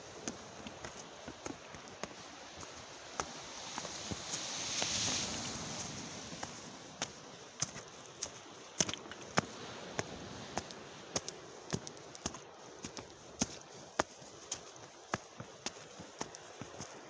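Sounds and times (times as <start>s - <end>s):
faint steady hiss: 0.0s - 17.0s
footsteps on stone steps: 0.1s - 5.0s, 6.4s - 9.5s, 10.6s - 17.0s.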